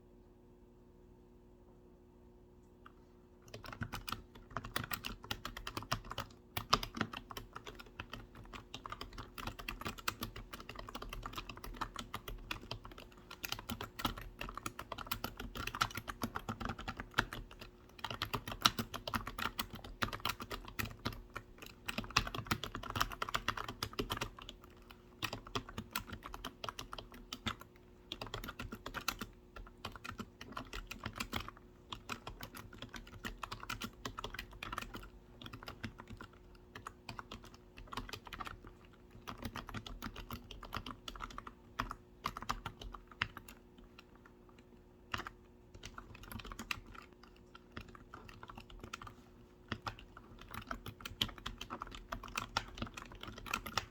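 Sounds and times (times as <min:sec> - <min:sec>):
computer keyboard typing: 0:03.4 - 0:53.9.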